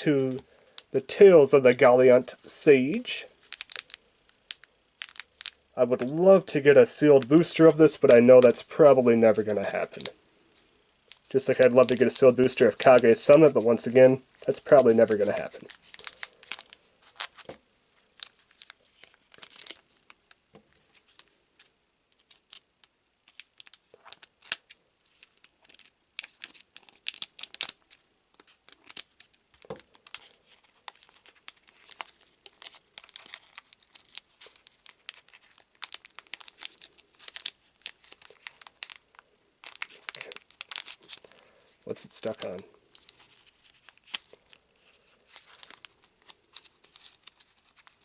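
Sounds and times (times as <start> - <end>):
wrapper crinkling and tearing: 0.6 - 10.2, 11.0 - 48.0.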